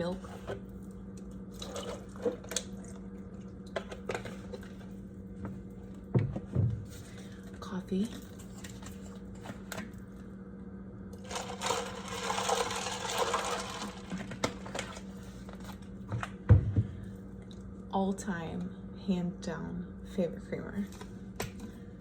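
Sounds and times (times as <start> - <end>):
coffee machine humming: 0.0 - 18.9.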